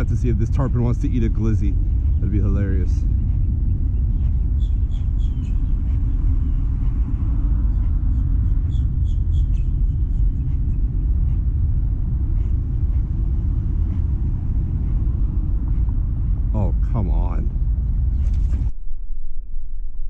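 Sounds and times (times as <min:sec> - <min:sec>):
low fluctuating rumble: 0:00.0 - 0:20.0.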